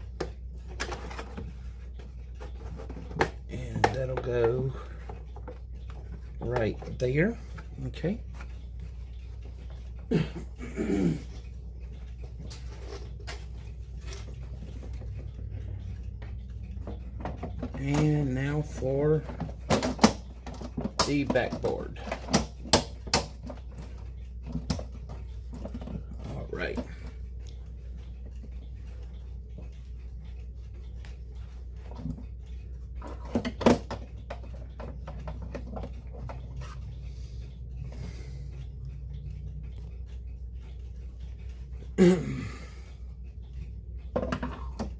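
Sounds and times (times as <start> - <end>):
clock parts clicking: 0.0 - 44.9
steady low hum: 0.0 - 44.9.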